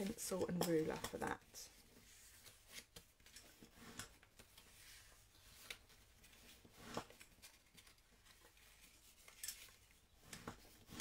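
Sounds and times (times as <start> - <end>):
paper rubbing and rustling: 0.9 - 11.0
bone folder scraping paper: 1.7 - 11.0.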